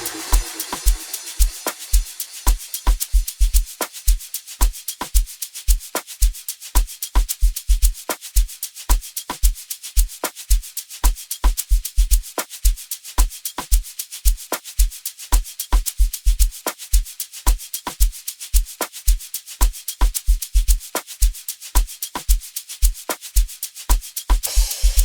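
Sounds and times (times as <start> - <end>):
amapiano drum pattern: 0.0 - 25.0.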